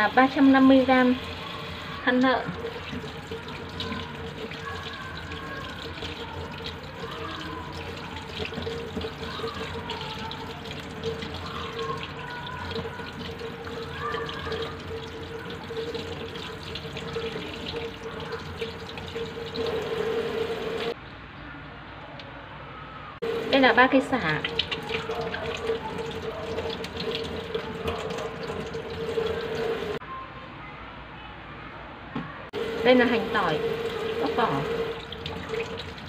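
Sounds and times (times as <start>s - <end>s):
tap water running into sink: 0.0s - 21.0s, 23.2s - 30.0s, 32.6s - 36.0s.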